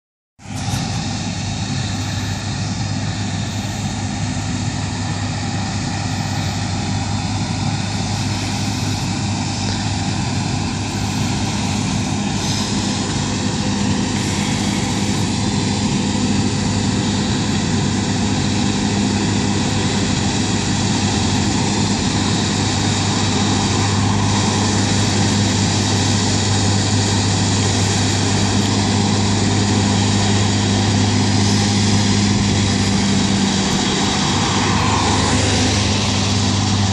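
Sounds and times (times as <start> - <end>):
combine harvester diesel engine drone: 0.4 - 36.9.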